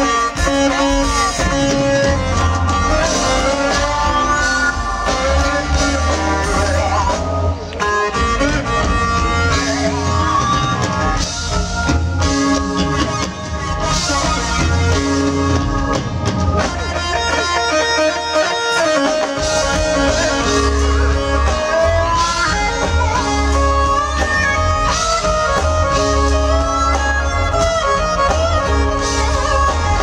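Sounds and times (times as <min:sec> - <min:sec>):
electric bass: 0:00.0 - 0:18.3, 0:19.1 - 0:30.0
drums: 0:00.0 - 0:30.0
guitar: 0:00.0 - 0:30.0.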